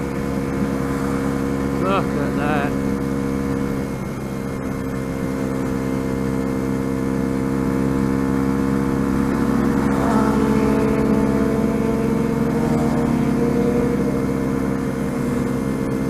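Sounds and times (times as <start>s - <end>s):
motorcycle engine cruising: 0.0s - 16.0s
second motorcycle engine: 0.0s - 16.0s.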